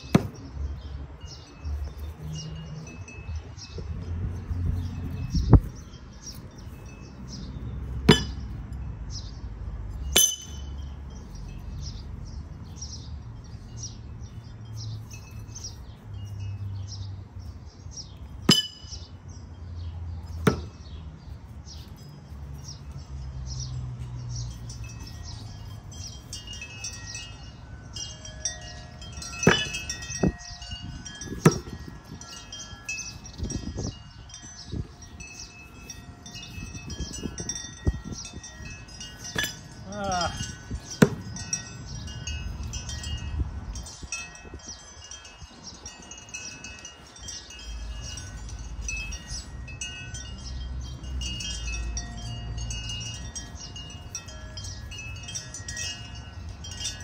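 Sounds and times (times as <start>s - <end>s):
wind chimes tinkling: 0.0s - 57.0s.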